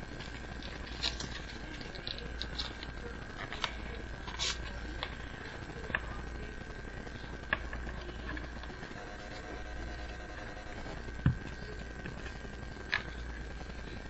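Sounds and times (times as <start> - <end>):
faint hum: 0.0 - 14.0
thin high whine: 0.0 - 14.0.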